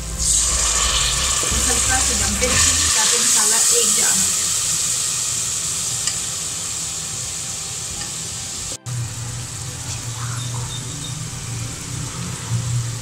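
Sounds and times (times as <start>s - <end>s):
sauce sizzling in a pot: 0.0s - 13.0s.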